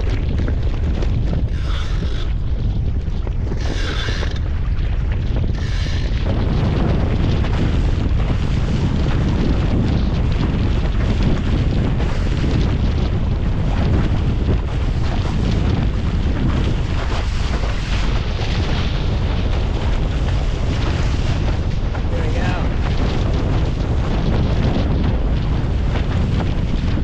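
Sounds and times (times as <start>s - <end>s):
rushing air and water: 0.0s - 27.0s
wind buffeting microphone: 0.0s - 27.0s.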